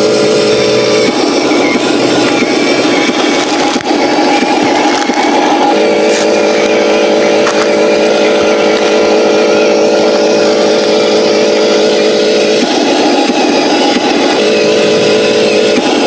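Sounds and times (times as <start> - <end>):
toy truck motor drone: 0.0 - 16.0.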